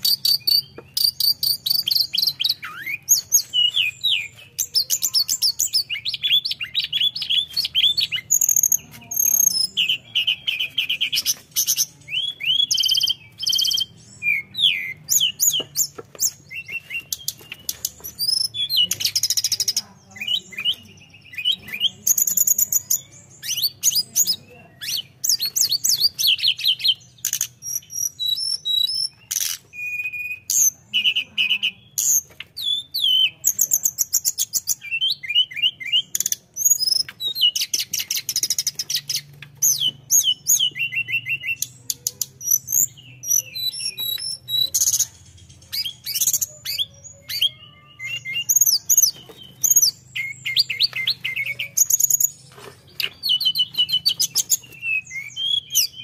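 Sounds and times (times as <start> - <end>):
bird singing high chirps and trills: 0.0 - 56.0.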